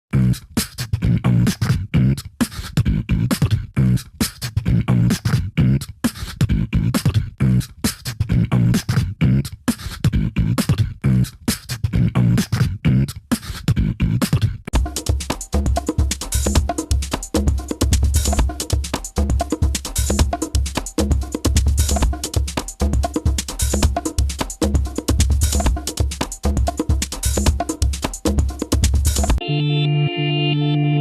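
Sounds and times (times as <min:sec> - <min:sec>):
beatboxing: 0:00.1 - 0:29.4.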